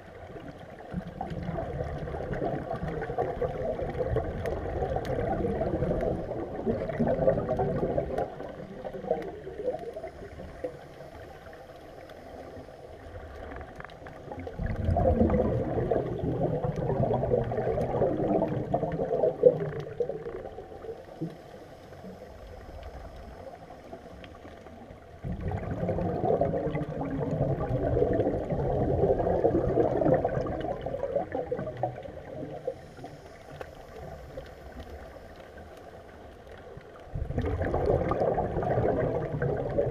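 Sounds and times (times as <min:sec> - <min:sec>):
regulator bubbles gurgling underwater: 0:00.0 - 0:39.9.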